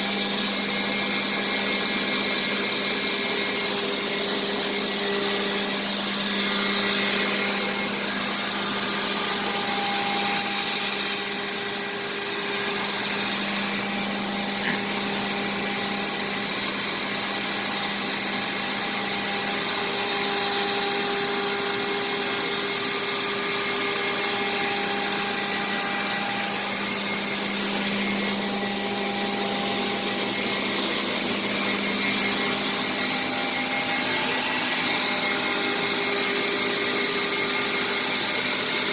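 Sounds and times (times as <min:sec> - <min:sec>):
cnc router spindle whine: 0:00.0 - 0:38.9
hiss of cutting plastic: 0:00.0 - 0:38.9.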